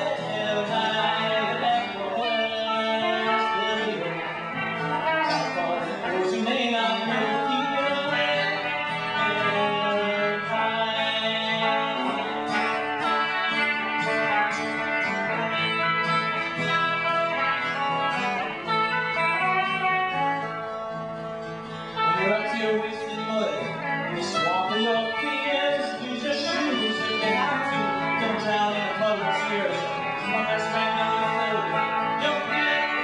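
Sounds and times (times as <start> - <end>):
acoustic folk guitar music: 0.0 - 33.0.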